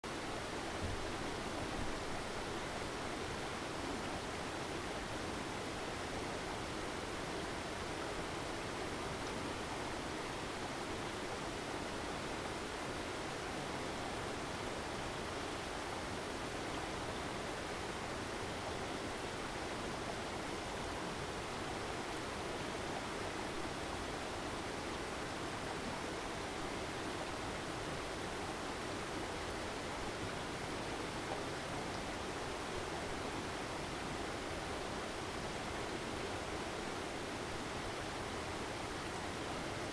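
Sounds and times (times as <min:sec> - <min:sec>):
water circulation and ventilation noise: 0:00.0 - 0:39.9.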